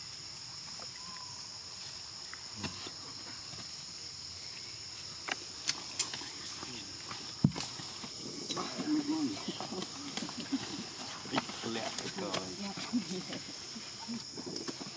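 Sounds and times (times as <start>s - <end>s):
insects trilling: 0.0s - 14.9s.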